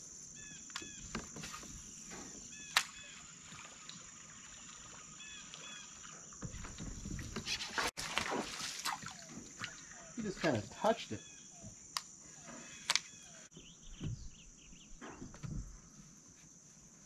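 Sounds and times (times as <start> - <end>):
bird calling: 0.3 - 7.6, 9.0 - 15.4.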